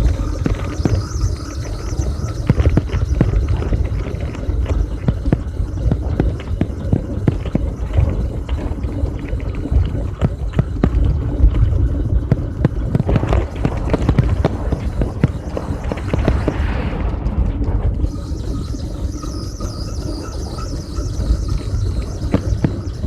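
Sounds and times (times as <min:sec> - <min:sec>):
bicycle riding rumble: 0:00.0 - 0:23.0.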